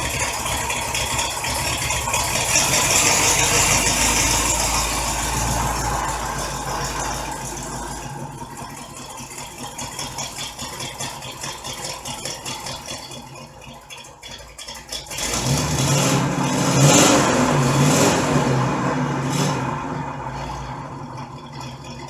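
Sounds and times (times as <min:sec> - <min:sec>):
car engine running and revving: 0:00.0 - 0:22.0.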